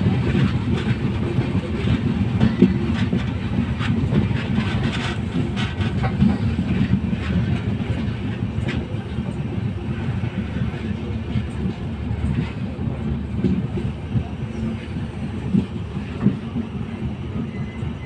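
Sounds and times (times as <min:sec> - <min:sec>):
wheels clicking over rail joints: 0:00.0 - 0:16.6
train rumbling on rails: 0:00.0 - 0:18.0.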